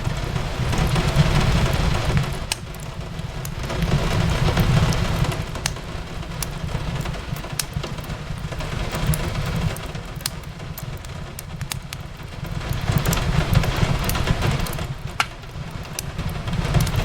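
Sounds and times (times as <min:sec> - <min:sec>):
rain on a window: 0:00.0 - 0:17.0
wood fire crackling: 0:00.0 - 0:17.0.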